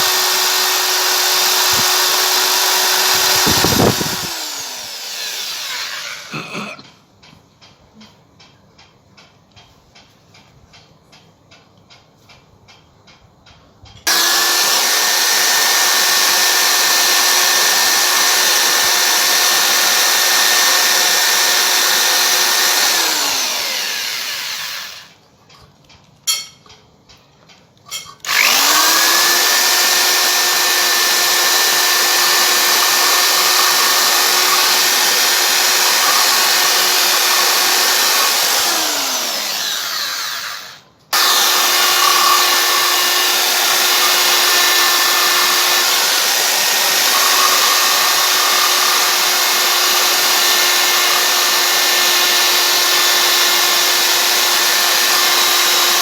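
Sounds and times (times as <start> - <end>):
power tool motor whining: 0.0 - 6.4, 14.1 - 25.1, 28.2 - 56.0.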